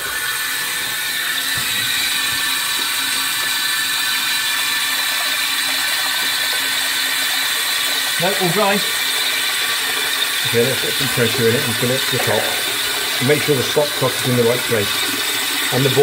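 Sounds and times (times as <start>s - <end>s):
water hissing into toilet cistern: 0.0s - 16.0s.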